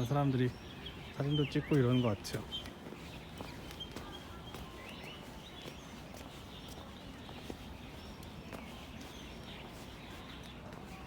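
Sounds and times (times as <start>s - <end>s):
footsteps on a path: 0.0s - 11.0s
low outdoor background noise: 0.0s - 11.0s.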